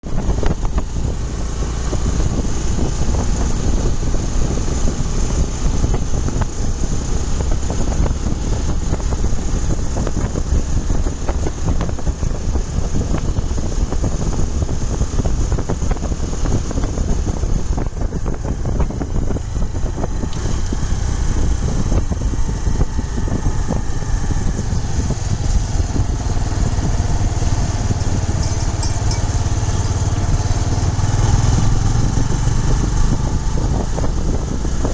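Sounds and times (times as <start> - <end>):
motorcycle engine rumble: 0.0 - 34.9.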